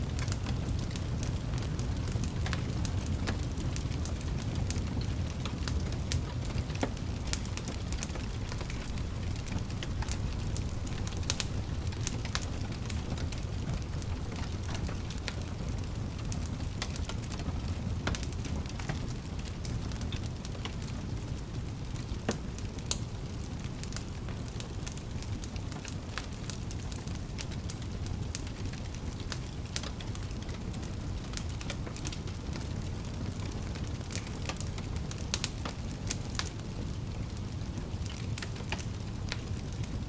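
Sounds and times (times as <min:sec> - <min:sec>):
burning logs crackling and popping: 0:00.0 - 0:40.0
fire flames rumbling: 0:00.0 - 0:40.0.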